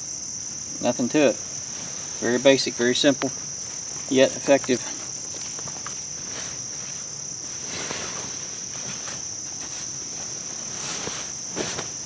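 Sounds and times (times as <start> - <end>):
insects trilling: 0.0 - 12.0
hammock fabric rustling: 1.3 - 12.0.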